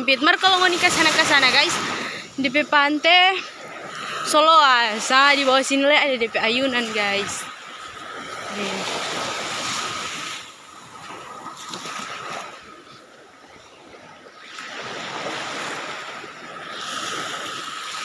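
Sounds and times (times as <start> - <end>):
waves washing on sandy beach: 0.0 - 18.0.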